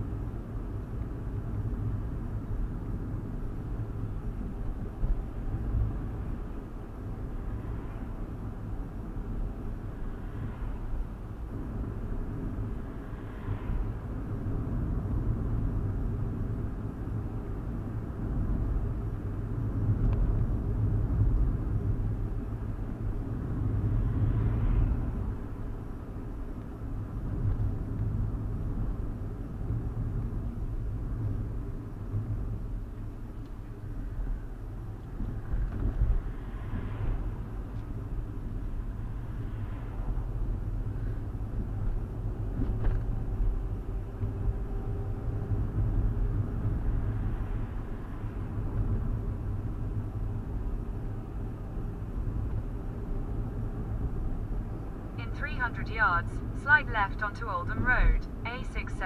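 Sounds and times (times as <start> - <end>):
road and engine rumble in car: 0.0 - 59.0.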